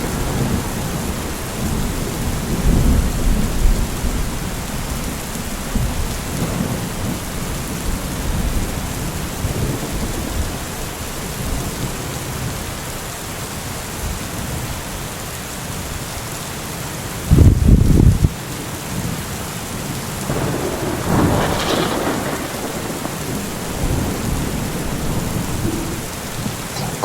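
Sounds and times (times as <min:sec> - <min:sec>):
falling rain hiss: 0:00.0 - 0:27.0.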